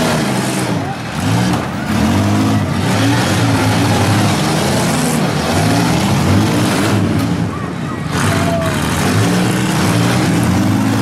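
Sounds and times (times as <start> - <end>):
minivan engines revving: 0.0 - 11.0.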